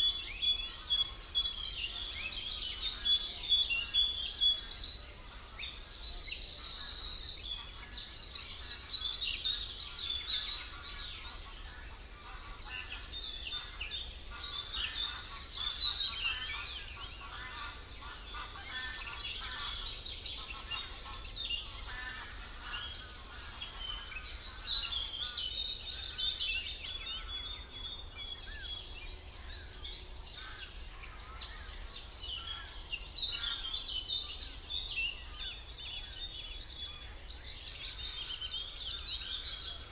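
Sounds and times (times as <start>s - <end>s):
songbirds singing in chorus: 0.0s - 39.9s.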